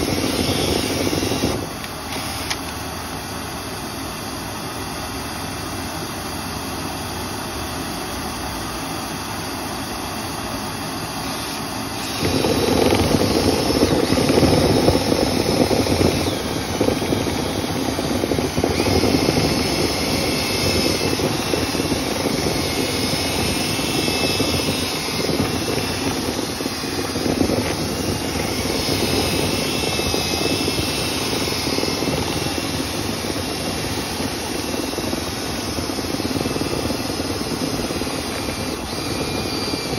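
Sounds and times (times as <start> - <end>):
vent cleaning machine running: 0.0 - 39.9.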